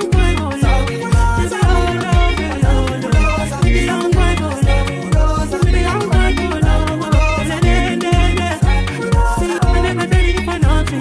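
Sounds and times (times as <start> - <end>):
afrobeat song: 0.0 - 11.0
deep kick drum: 0.1 - 10.9.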